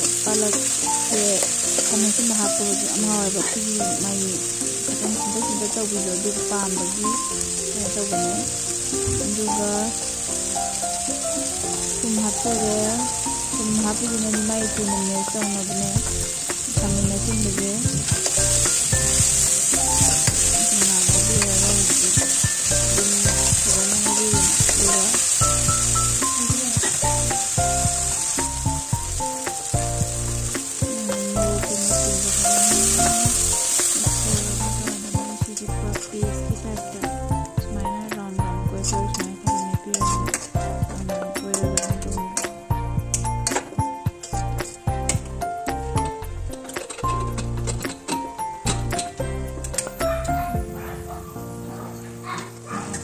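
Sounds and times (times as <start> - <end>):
food sizzling in a pan: 0.0 - 50.7
soft melodic background music: 0.0 - 53.0.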